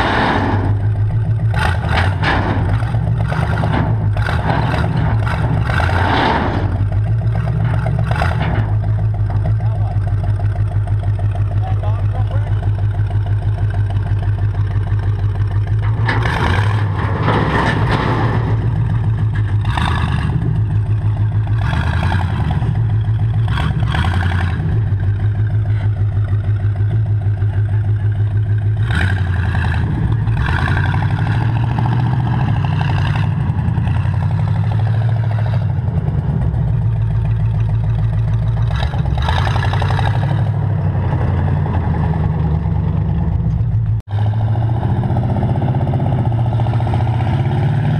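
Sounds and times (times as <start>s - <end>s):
tracked vehicle engine droning: 0.0s - 47.9s.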